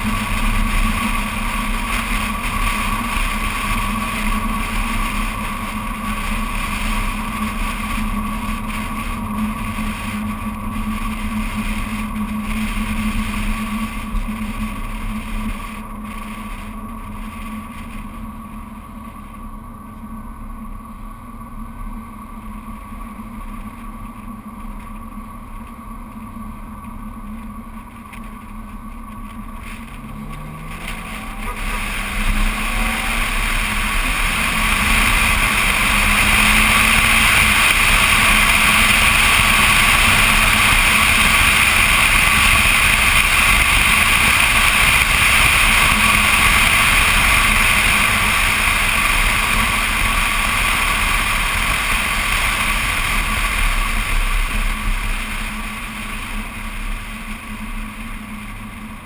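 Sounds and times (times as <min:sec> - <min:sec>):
wind and road noise rushing: 0:00.0 - 0:59.0.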